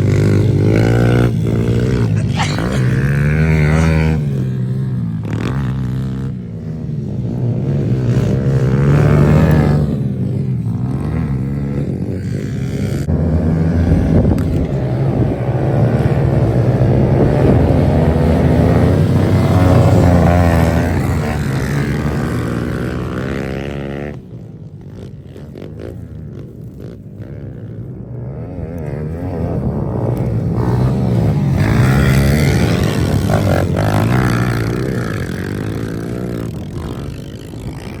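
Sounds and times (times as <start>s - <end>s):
pit bike engine revving: 0.0s - 24.3s, 28.2s - 38.0s.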